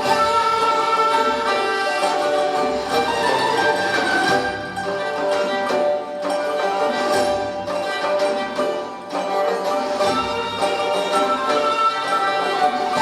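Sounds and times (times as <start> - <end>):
bowed and plucked strings melody: 0.0 - 13.0
repeated plucked strikes: 0.0 - 13.0.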